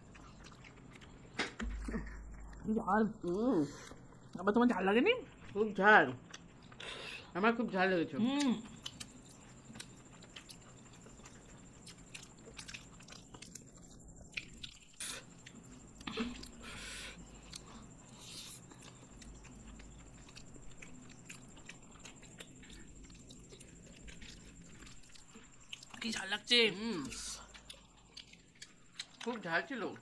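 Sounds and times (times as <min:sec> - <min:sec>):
people chewing and biting food: 0:00.0 - 0:04.5, 0:06.2 - 0:07.3, 0:08.2 - 0:30.0.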